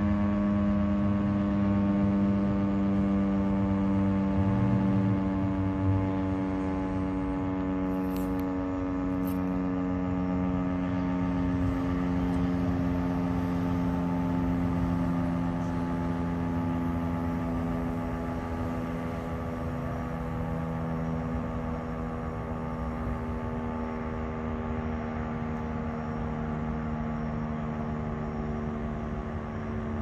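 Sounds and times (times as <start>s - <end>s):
fire siren two-note chord: 0.0s - 30.0s.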